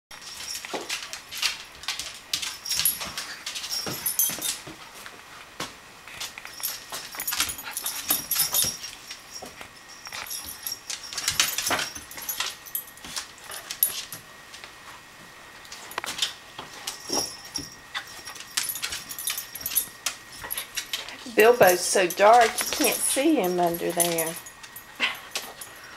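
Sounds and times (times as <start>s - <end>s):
collar tags jingling: 1.8s - 4.8s, 6.3s - 14.2s, 15.7s - 25.9s.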